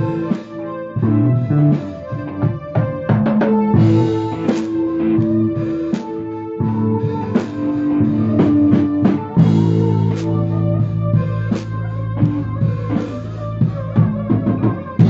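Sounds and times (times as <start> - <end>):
drum kit hits: 0.0 - 15.0
electric guitar: 0.0 - 15.0.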